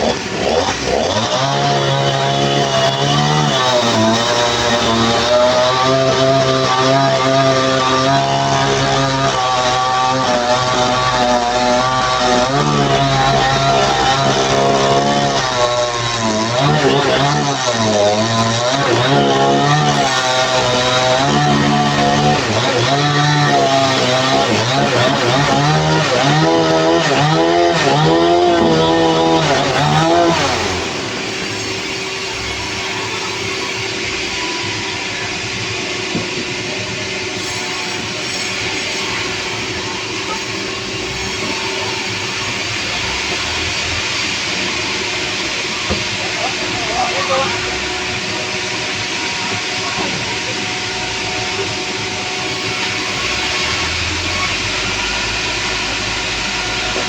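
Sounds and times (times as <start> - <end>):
engine saw cutting timber: 0.0 - 57.0
sawmill machinery running: 0.0 - 57.0.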